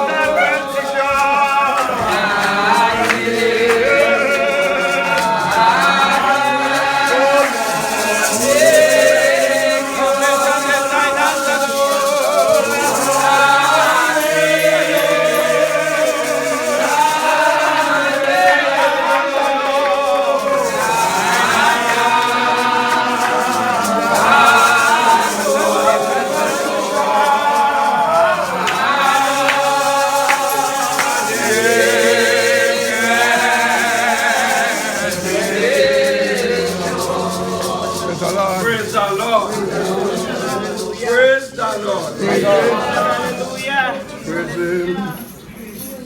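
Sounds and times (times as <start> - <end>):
congregation singing a hymn: 0.0 - 46.0
shakers rattling: 0.0 - 46.0.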